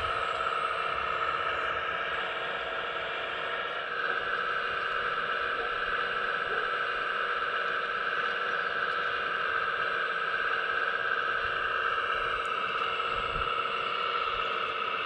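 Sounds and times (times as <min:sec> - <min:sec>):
hydraulic pump whining: 0:00.0 - 0:15.0.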